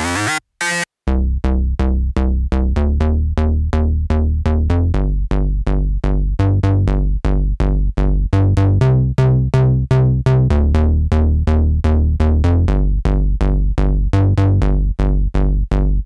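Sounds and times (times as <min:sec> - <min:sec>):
synthesizer bass line: 0:00.0 - 0:16.0.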